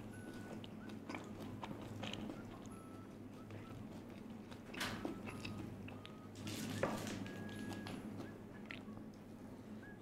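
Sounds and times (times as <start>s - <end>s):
person chewing: 0.0s - 6.4s, 7.2s - 9.1s.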